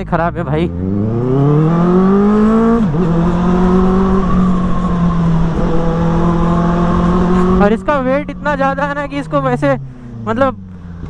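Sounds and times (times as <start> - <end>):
motorcycle accelerating: 0.0 - 11.0.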